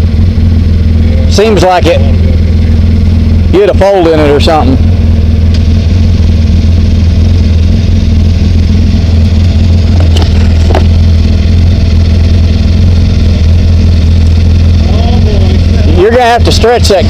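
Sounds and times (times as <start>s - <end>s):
off-road vehicle engine idling: 0.0s - 17.0s.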